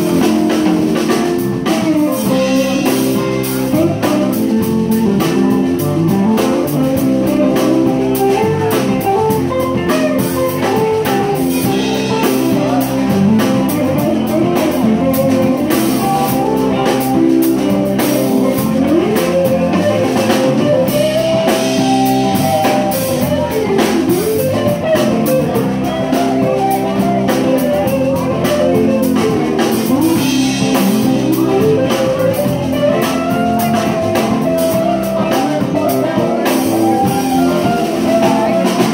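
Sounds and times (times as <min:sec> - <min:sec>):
blues rock band playing: 0:00.0 - 0:38.9
lead guitar bending notes: 0:00.0 - 0:38.9.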